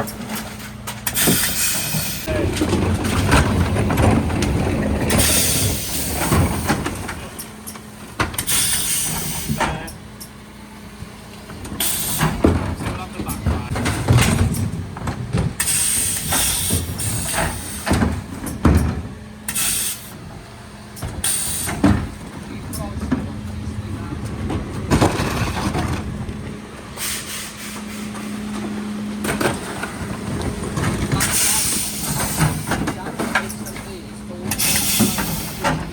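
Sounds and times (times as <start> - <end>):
truck engine humming: 0.0 - 35.9.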